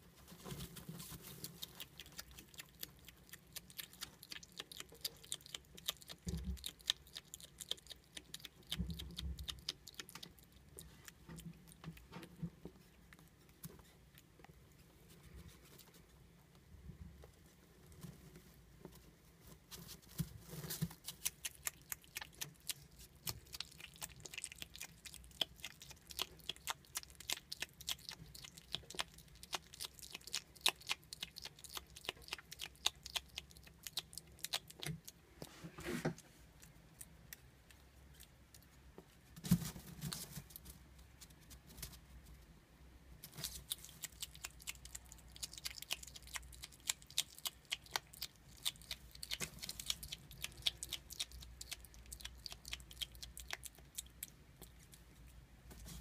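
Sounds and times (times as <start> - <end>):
animal chewing and crunching food: 0.0 - 42.5, 43.2 - 56.0.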